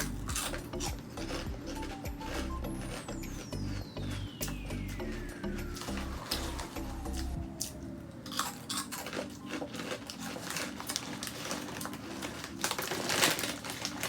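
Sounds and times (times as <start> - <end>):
crunching and chewing snack: 0.0 - 14.0.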